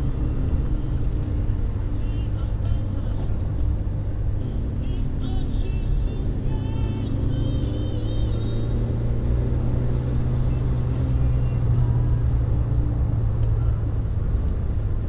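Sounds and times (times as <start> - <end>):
car engine drone from cabin: 0.0 - 15.0
road noise: 0.0 - 15.0.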